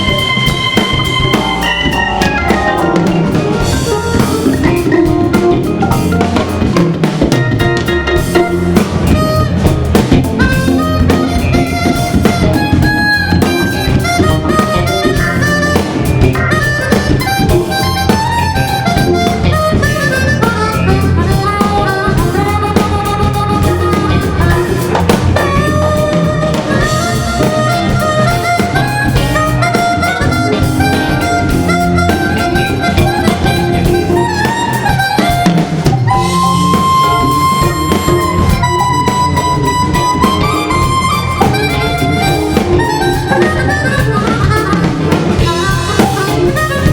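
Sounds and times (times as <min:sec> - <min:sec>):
drum kit groove: 0:00.0 - 0:46.9
organ lead lines: 0:00.0 - 0:46.9.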